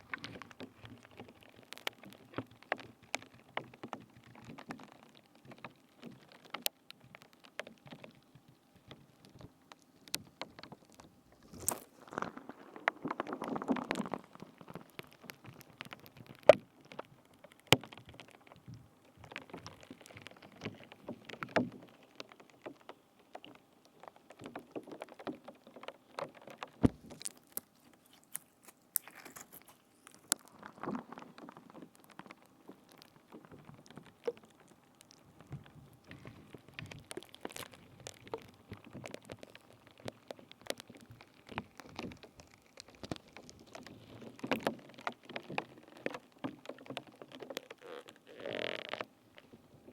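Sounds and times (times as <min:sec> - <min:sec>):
soft crackling: 0:00.0 - 0:49.9.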